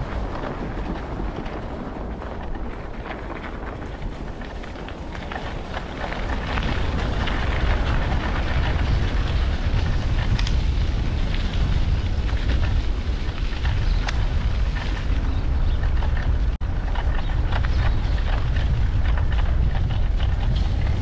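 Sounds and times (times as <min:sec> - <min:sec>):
bike tyres crackling on pavement: 0:00.0 - 0:21.0
wind buffeting microphone: 0:00.0 - 0:21.0.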